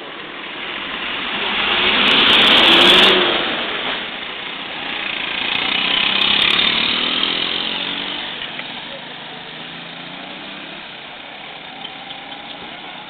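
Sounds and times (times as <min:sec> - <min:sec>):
vehicles passing on wet road: 0:00.0 - 0:13.0.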